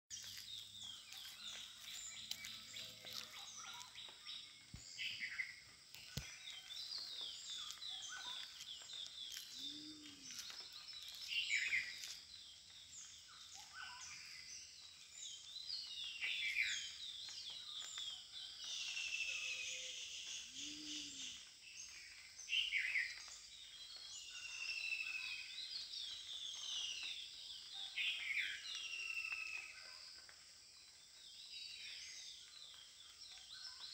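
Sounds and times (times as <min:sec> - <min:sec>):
birds chirping and twittering: 0:00.1 - 0:33.9.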